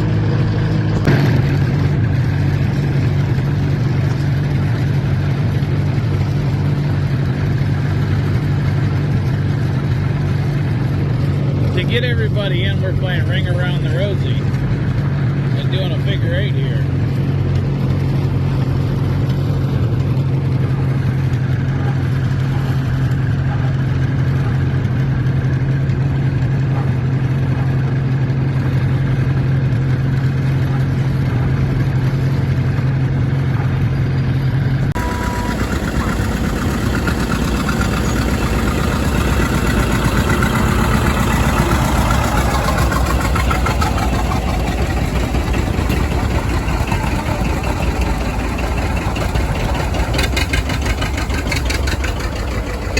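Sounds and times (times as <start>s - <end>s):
tractor engines running: 0.0s - 52.9s.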